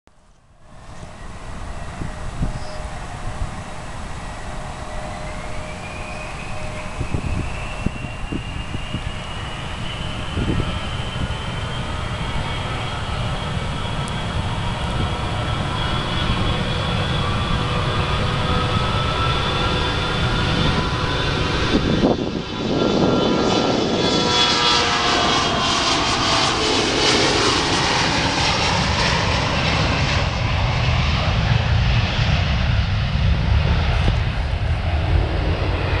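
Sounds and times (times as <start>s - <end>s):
high jet engine whine: 0.1s - 36.0s
jet engines rumbling: 0.2s - 36.0s.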